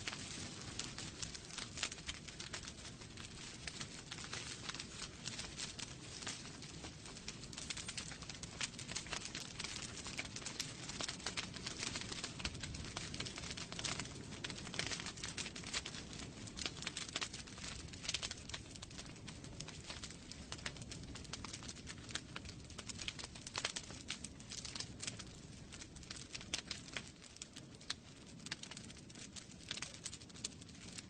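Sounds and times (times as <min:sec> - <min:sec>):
logs crackling and popping: 0:00.0 - 0:31.0
low rush of flame: 0:00.0 - 0:31.0.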